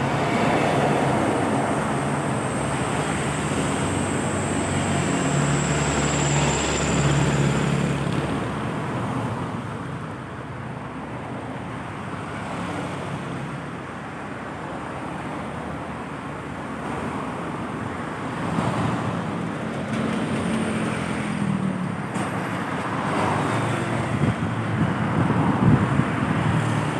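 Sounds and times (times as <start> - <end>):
heavy vehicle engine hum: 0.0 - 26.9
road traffic going by: 0.0 - 26.9.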